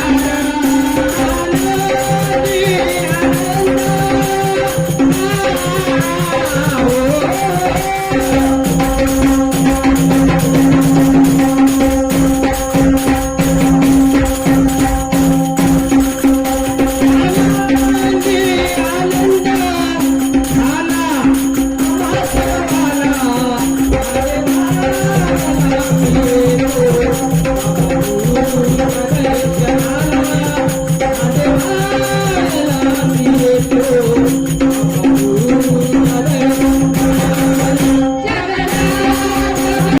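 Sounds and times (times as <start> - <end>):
drum playing fast rhythm: 0.0 - 40.0
jingling hand percussion: 0.0 - 40.0.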